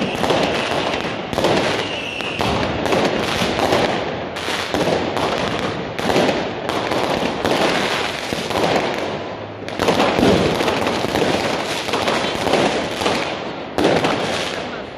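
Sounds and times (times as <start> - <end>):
fireworks and firecrackers banging: 0.0 - 14.9.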